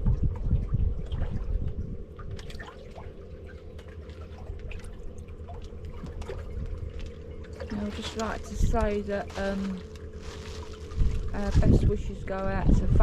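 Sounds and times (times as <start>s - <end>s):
small splashes: 0.0s - 12.1s
faint steady hum: 0.0s - 13.0s
low rumble: 0.0s - 13.0s
water lapping against boat hull: 0.0s - 13.0s.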